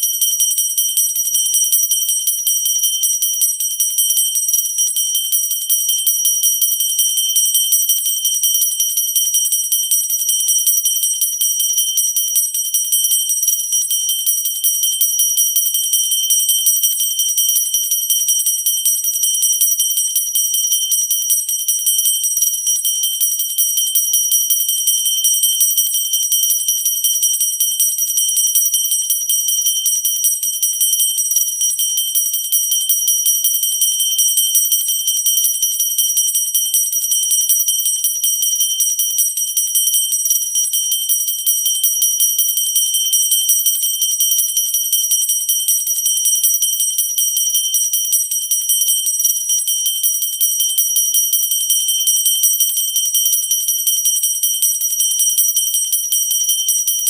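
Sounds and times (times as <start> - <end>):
bell ringing continuously: 0.0 - 57.0.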